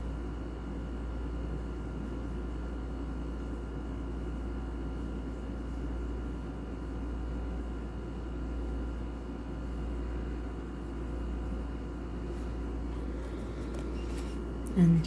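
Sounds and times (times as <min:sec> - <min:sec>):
high steady whines: 0:00.0 - 0:15.0.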